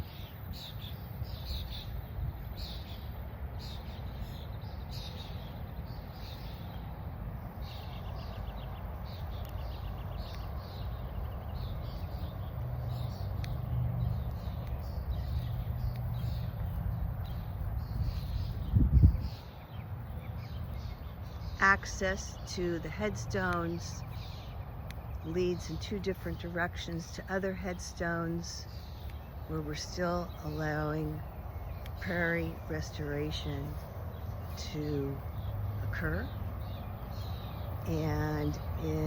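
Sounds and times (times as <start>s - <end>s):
birds chirping and calling: 0.0s - 39.0s
steady low rumble: 0.0s - 39.0s.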